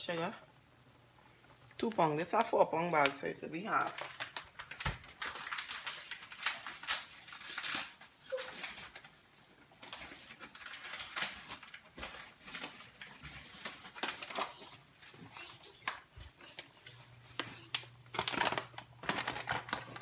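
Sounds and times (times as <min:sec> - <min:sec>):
sugar bag crinkling: 0:03.1 - 0:20.0.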